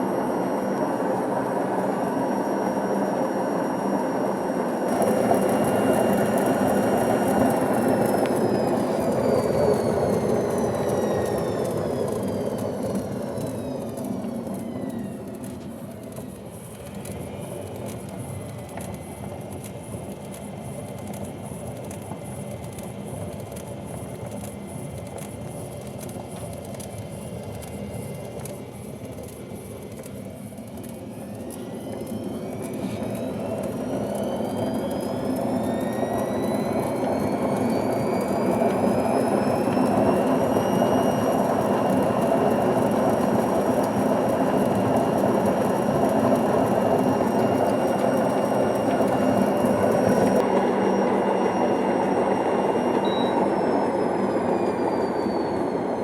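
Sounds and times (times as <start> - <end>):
washing machine spinning: 0.0 - 56.0
whine of drum speeding up: 0.0 - 56.0.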